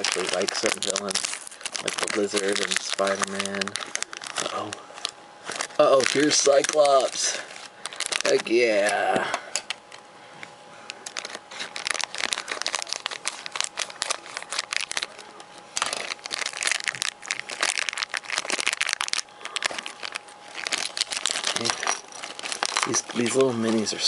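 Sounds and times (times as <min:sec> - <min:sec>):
plastic wrapper crinkling: 0:00.0 - 0:09.0, 0:10.9 - 0:24.0.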